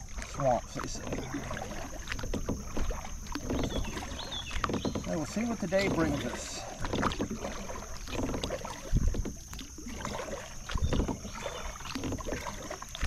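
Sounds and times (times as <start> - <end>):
paddle strokes in water: 0.0 - 13.0.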